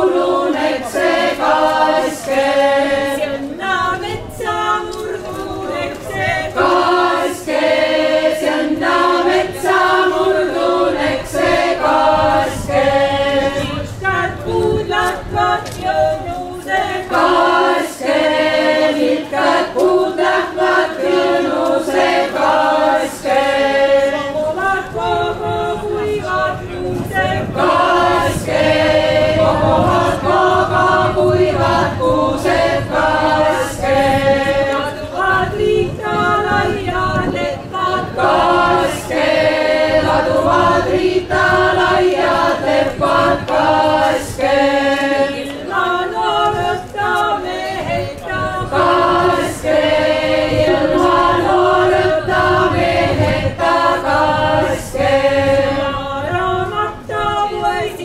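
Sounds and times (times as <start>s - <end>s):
vocal ensemble singing in harmony: 0.0s - 58.0s.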